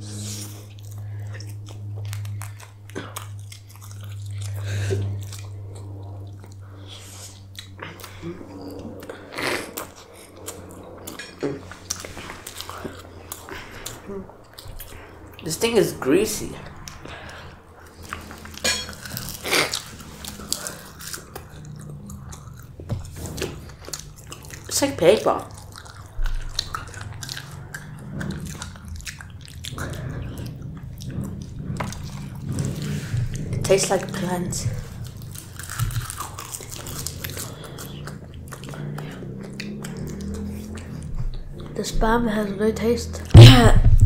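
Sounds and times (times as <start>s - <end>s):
chewing and biting: 0.0s - 43.4s.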